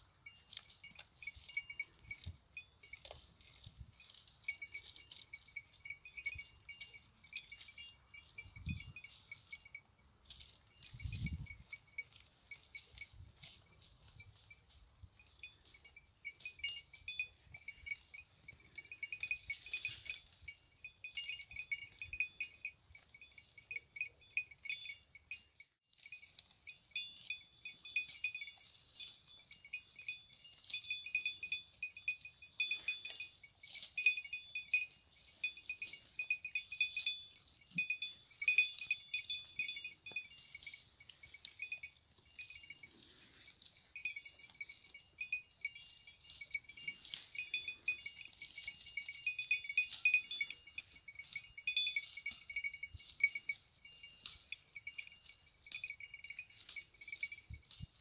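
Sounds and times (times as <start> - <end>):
goat bells jingling: 0.0 - 58.0.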